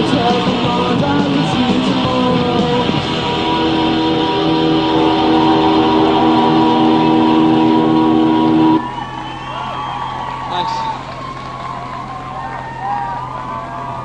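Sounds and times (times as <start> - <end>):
distorted electric guitar chord ringing: 0.0 - 14.0.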